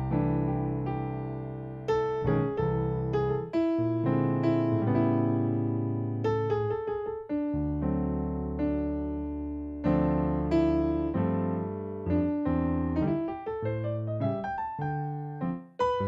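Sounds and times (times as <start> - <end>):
solo jazz piano: 0.0 - 16.0.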